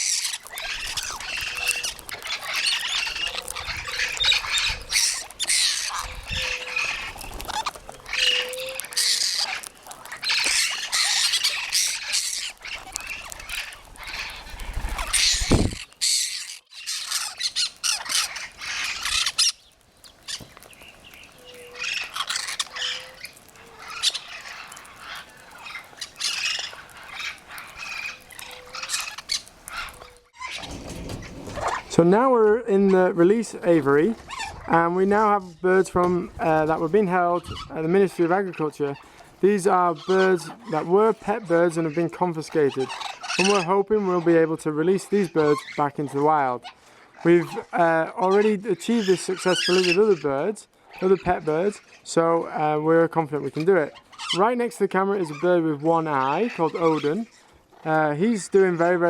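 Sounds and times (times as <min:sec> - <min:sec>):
parrots squawking and screeching: 0:00.0 - 0:32.0, 0:32.9 - 0:34.9, 0:36.2 - 0:52.3, 0:53.4 - 0:59.0.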